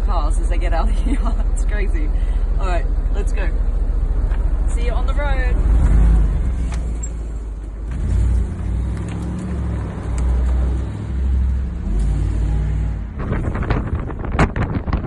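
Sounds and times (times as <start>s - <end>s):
car engine accelerating: 2.0s - 15.0s.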